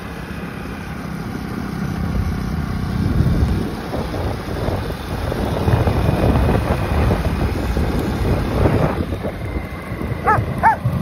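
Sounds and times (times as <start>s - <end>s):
motorcycle engine running: 0.0s - 11.0s
wind buffeting microphone: 2.0s - 11.0s.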